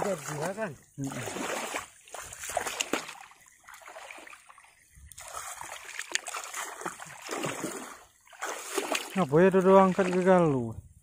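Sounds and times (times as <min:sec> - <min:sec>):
person wading through water: 0:00.0 - 0:10.7.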